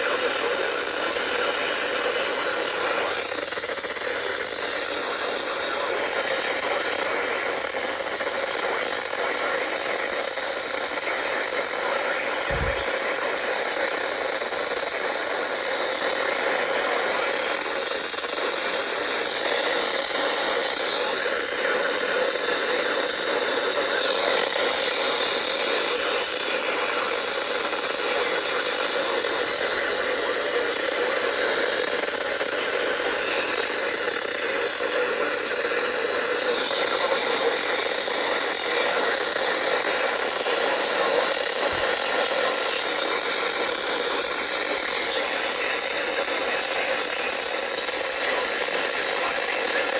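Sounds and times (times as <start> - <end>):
radio static hiss: 0.0 - 49.9.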